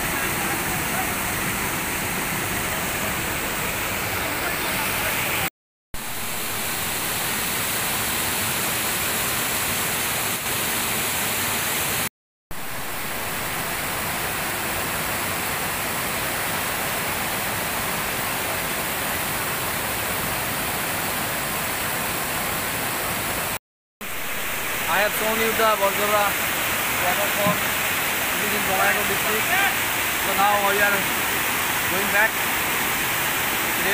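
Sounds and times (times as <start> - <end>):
waterfall rushing over rocks: 0.0 - 33.9.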